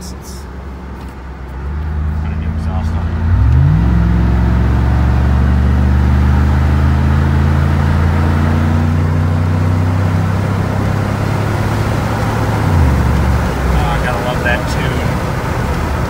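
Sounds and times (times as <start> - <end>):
pickup engine accelerating: 0.5 - 16.0.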